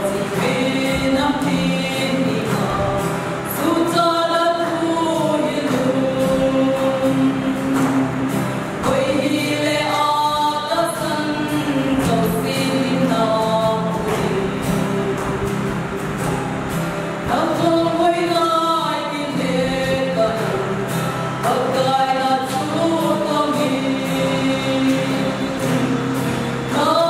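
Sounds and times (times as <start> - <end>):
acoustic guitar: 0.0 - 27.0
women singing a hymn in harmony: 0.0 - 27.0.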